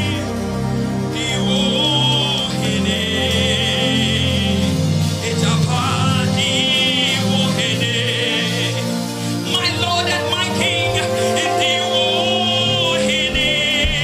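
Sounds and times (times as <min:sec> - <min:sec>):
sustained backing chords: 0:00.0 - 0:14.0.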